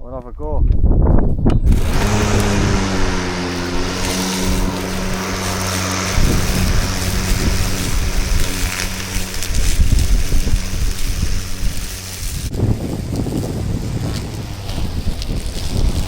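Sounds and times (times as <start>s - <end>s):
blade cutting long grass: 1.6s - 16.0s
electric lawn mower running: 1.6s - 16.0s.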